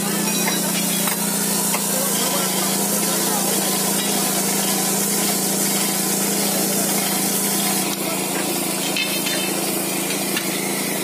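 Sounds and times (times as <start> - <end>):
machine humming with rushing hiss: 0.0 - 11.0.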